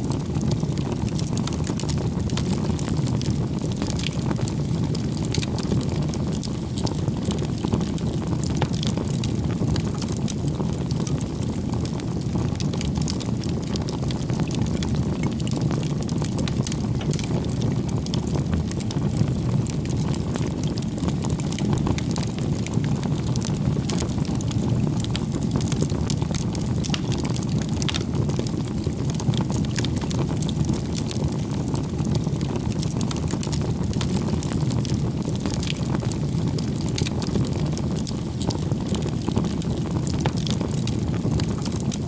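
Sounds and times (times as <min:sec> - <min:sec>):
campfire crackling and popping: 0:00.0 - 0:42.0
low fire rumble: 0:00.0 - 0:42.0.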